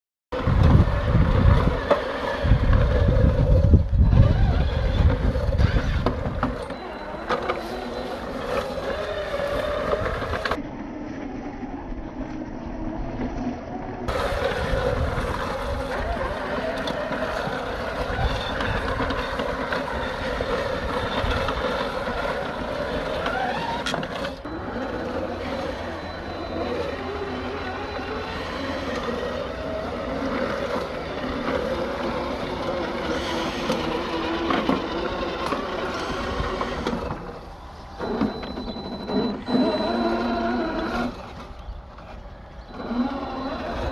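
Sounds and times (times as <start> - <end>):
electric motor whining: 0.4 - 43.9
reel mower blades whirring: 0.4 - 43.9.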